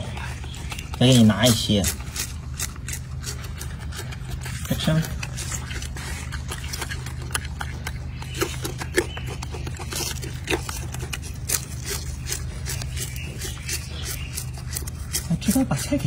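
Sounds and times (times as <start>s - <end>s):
monkey chewing lettuce crunches: 0.0s - 16.0s
steady low hum: 0.0s - 16.0s.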